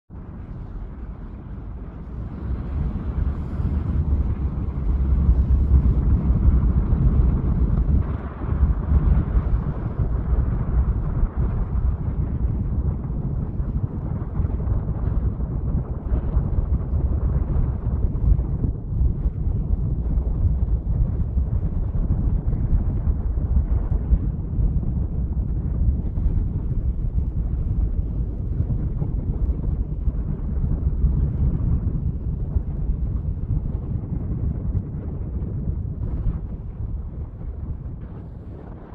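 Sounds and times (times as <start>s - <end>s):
wind buffeting microphone: 0.1s - 38.9s.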